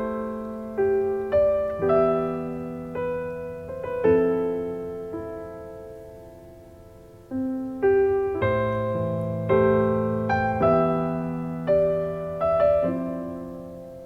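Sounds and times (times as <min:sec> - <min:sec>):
electric piano chords: 0:00.0 - 0:14.0.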